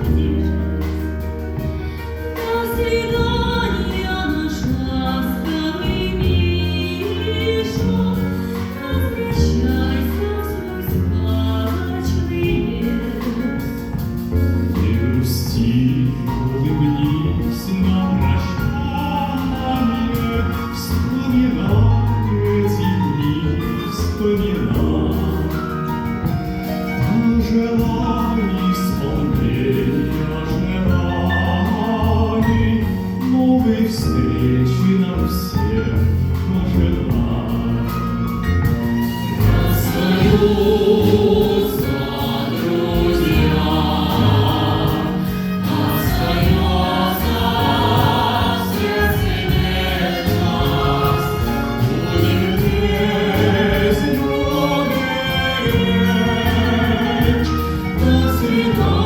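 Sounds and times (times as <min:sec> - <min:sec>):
live ensemble music: 0:00.0 - 0:59.0
choir singing: 0:02.4 - 0:14.1, 0:14.8 - 0:59.0.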